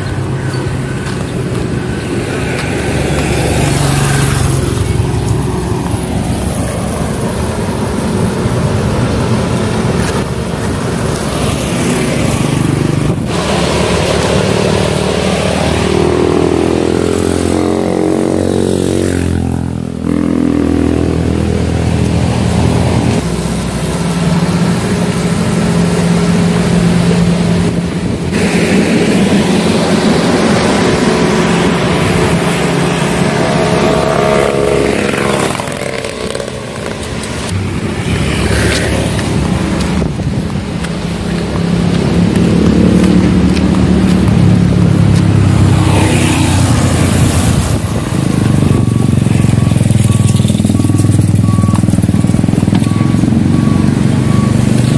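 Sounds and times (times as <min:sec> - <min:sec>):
small motorcycles riding past: 0:00.0 - 0:27.2, 0:28.3 - 0:54.9.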